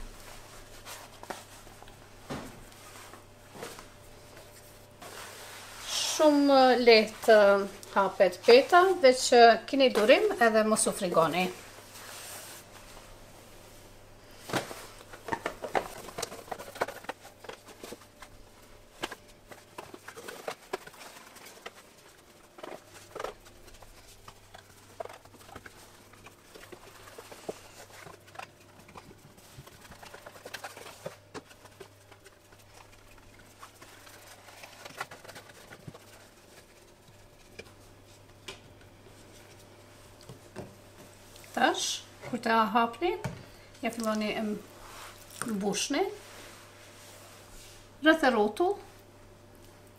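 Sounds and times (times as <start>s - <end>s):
dough patting and rustling: 0.0s - 49.9s.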